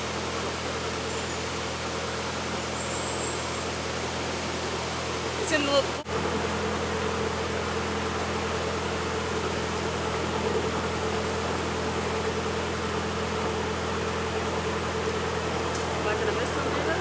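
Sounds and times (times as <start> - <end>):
diesel boat engine humming: 0.0 - 17.0.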